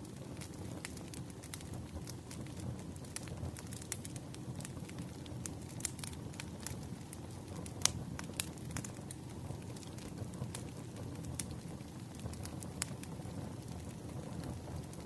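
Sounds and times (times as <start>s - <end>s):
fire pops and snaps: 0.0s - 15.0s
wood fire rumbling: 0.0s - 15.0s.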